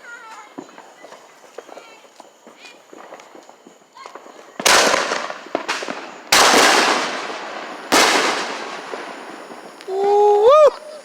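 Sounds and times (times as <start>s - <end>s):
fireworks banging: 0.0s - 11.0s.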